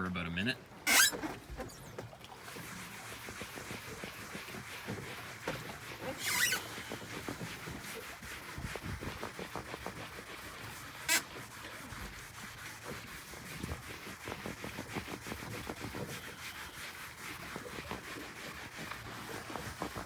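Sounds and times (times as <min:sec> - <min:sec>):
foam scrubbing vinyl with squeaks: 0:00.0 - 0:20.0.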